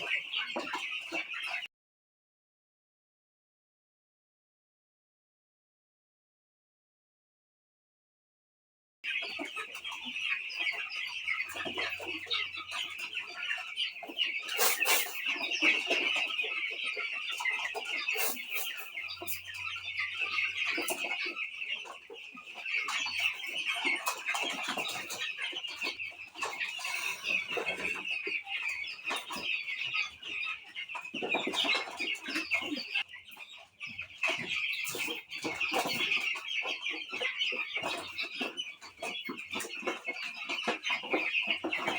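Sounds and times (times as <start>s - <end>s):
chicks peeping and cheeping: 0.0s - 1.7s, 9.0s - 41.9s.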